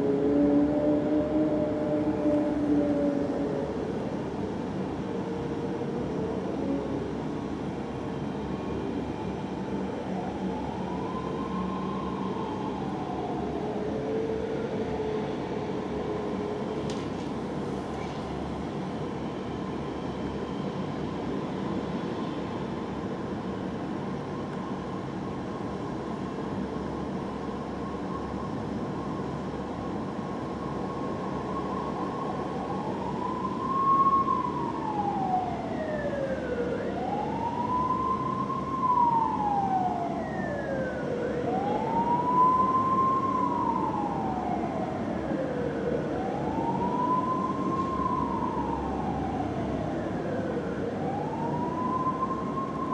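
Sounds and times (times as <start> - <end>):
fire engine siren wailing: 0.0 - 52.9.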